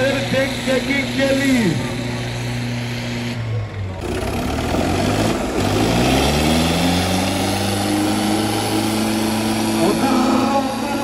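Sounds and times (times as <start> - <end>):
tractor diesel engines revving: 0.0 - 11.0.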